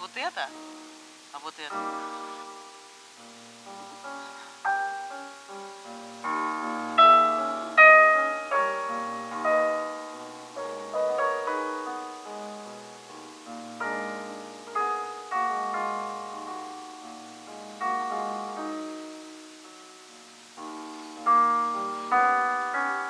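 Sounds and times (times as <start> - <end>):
grand piano piece: 0.0 - 23.0.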